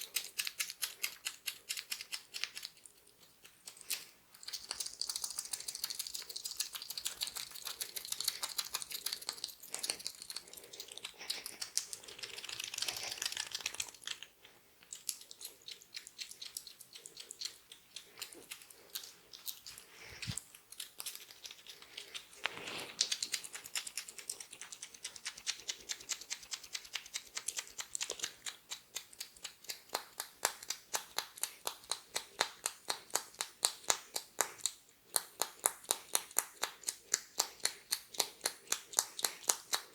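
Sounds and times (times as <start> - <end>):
oiled hands massaging skin: 0.0 - 39.9
rhythmic pats on skin: 0.0 - 39.9.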